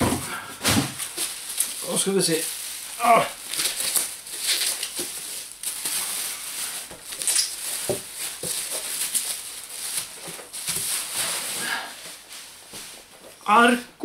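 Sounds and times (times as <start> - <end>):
bubble wrap rustling and crinkling: 0.0 - 13.9.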